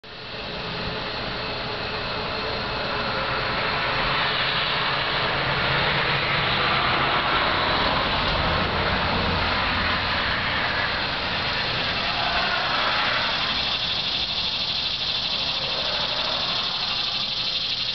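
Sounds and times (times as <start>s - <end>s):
low hum: 0.1s - 17.9s
mechanical rushing noise: 0.4s - 17.9s.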